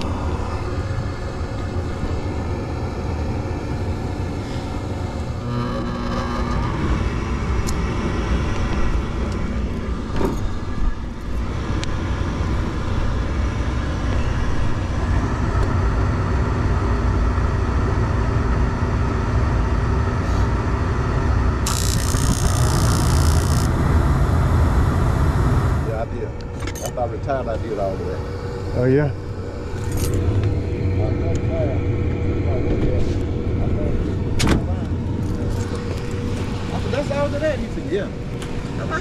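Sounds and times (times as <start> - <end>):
gas furnace rumbling: 0.0 - 39.0.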